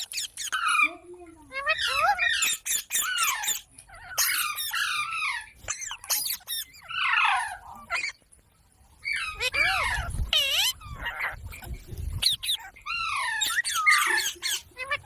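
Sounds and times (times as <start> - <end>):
parrot calling: 0.0 - 8.2, 9.0 - 15.0.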